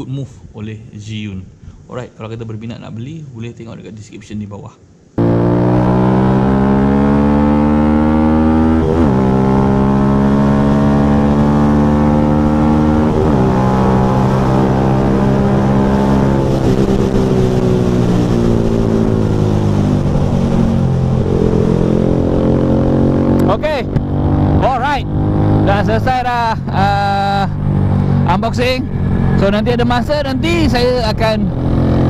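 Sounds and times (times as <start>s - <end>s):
motorcycle engine accelerating: 5.2s - 32.0s.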